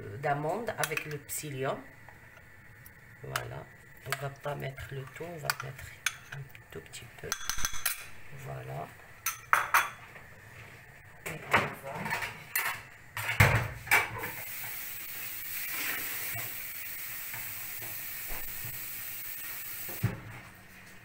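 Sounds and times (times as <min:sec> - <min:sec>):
hissing sizzle from pot: 0:00.1 - 0:21.0.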